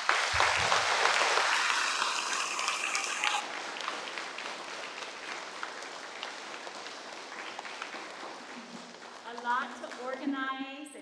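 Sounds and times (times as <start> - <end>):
audience applause: 0.0 - 9.6
scattered claps: 0.0 - 10.4.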